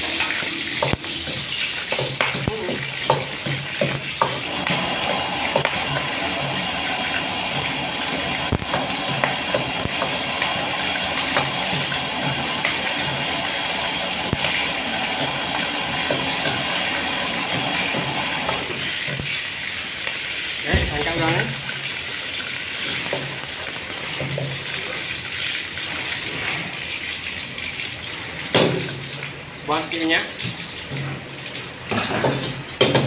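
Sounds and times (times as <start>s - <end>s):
prawns sizzling in hot oil: 0.0s - 33.0s.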